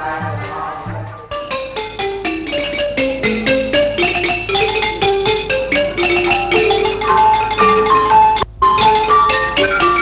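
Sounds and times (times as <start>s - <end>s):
xylophone melody: 1.3s - 10.0s.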